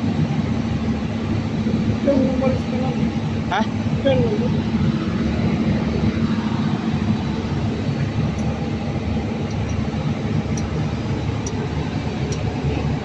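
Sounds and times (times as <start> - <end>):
constant hum: 0.0 - 13.0
engine rumbling: 0.0 - 13.0.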